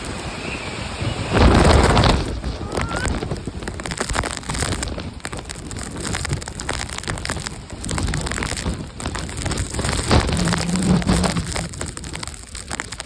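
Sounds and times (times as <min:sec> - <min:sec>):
rain pattering: 0:00.0 - 0:13.0
wind buffeting microphone: 0:00.0 - 0:13.0.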